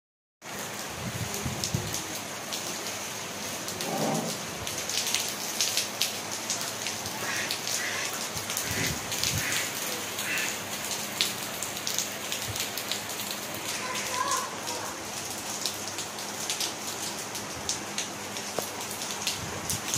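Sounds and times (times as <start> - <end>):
raindrops striking close by: 0.4 - 19.9
steady rain falling: 0.4 - 19.9.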